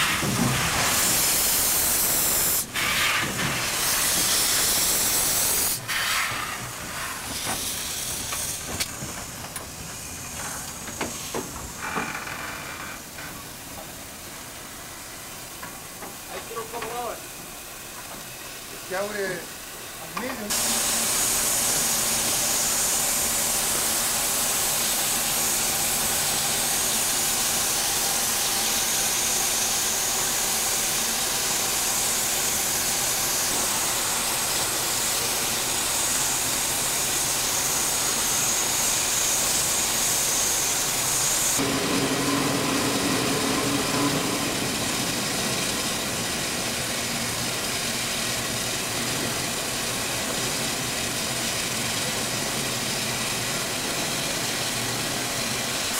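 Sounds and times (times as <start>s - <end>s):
steam locomotive hissing: 0.0s - 55.9s.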